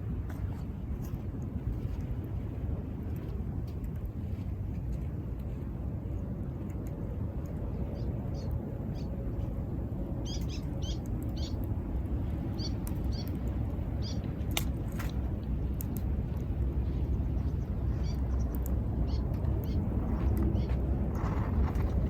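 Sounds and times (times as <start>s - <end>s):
rumble of surf: 0.0s - 22.0s.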